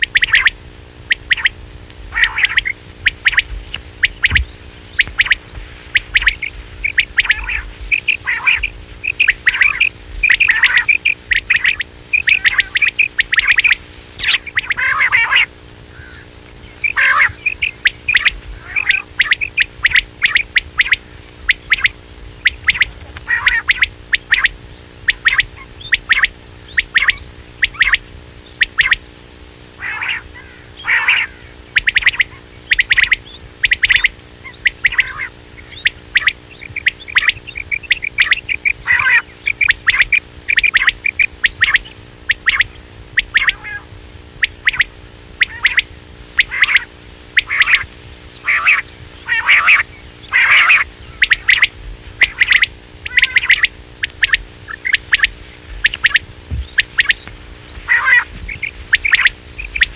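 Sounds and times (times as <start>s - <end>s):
faint steady hum: 0.0s - 59.9s
quail chirping: 0.0s - 59.9s.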